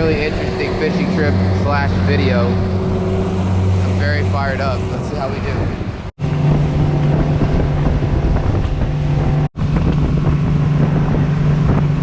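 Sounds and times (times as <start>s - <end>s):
boat motor running: 0.0s - 12.0s
wind buffeting microphone: 0.0s - 12.0s.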